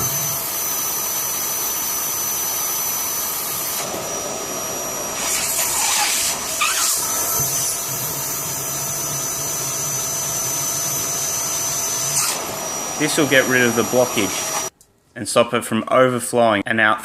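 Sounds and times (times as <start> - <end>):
vacuum cleaner running: 0.0 - 14.7.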